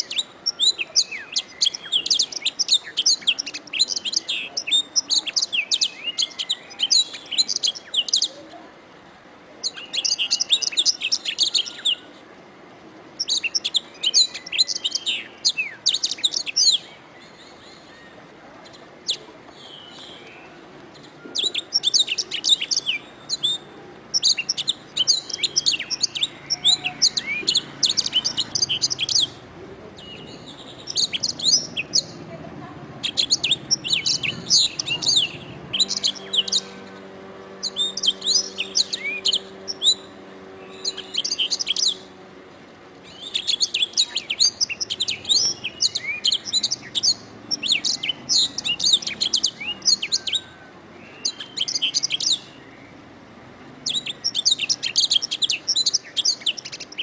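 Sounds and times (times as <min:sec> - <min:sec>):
canary singing: 0:00.0 - 0:08.6, 0:09.6 - 0:12.2, 0:13.1 - 0:57.0.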